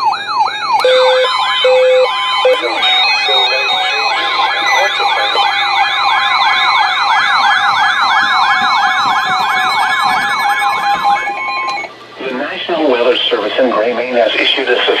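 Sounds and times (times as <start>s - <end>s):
electronic siren alarm: 0.0s - 12.1s
steady alert tones: 0.0s - 12.1s.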